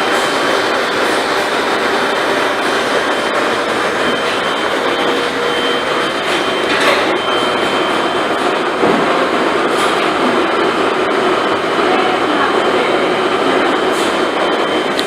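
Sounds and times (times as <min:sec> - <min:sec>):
high whine: 0:00.0 - 0:15.0
machinery whirring hum: 0:00.0 - 0:15.0.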